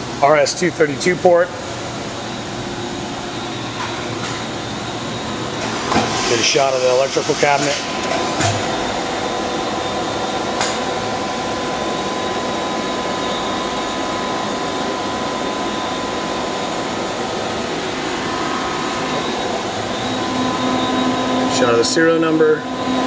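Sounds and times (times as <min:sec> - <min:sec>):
machine and cooling fans humming: 0:00.0 - 0:23.0
thin steady whine: 0:00.0 - 0:23.0.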